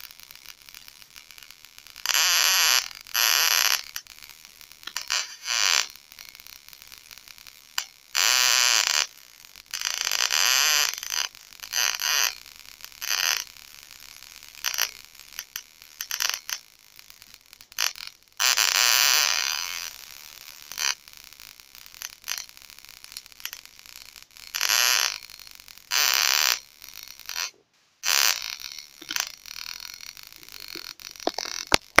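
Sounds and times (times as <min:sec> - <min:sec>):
electric sparks crackling buzz: 0:00.0 - 0:32.0.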